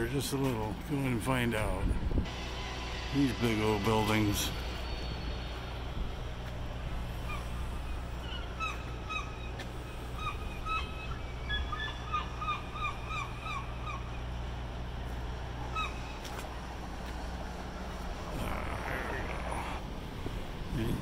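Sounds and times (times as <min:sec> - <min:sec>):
construction machinery hum: 0:00.0 - 0:21.0.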